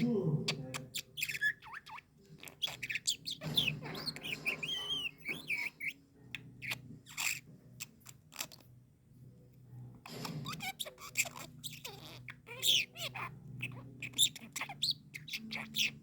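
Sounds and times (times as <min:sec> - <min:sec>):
lovebird chirping: 0:00.0 - 0:08.8, 0:09.8 - 0:16.0.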